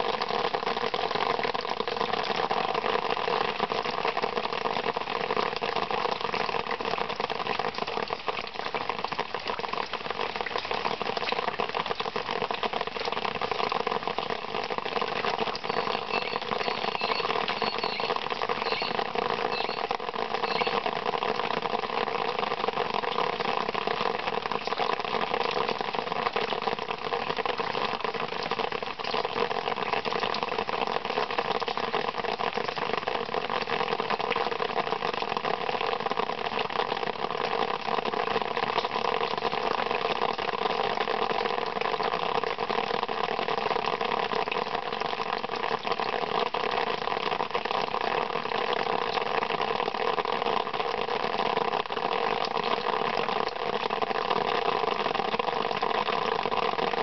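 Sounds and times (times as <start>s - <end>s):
rain dripping on large leaves: 0.0s - 57.0s.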